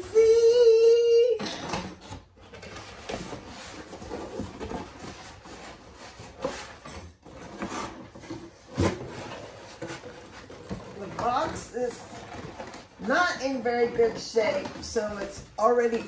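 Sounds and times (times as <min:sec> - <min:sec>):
cardboard flaps rubbing and scraping: 0:02.6 - 0:16.0.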